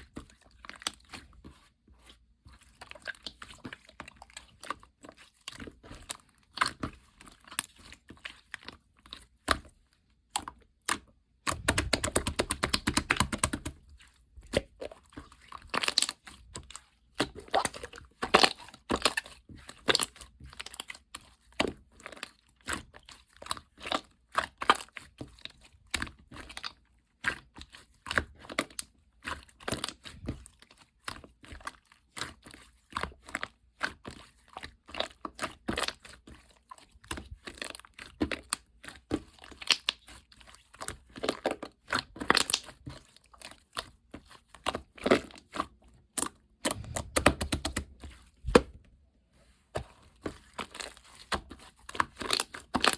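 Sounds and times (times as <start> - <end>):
slime squelching and popping: 2.2 - 48.9, 49.8 - 52.9.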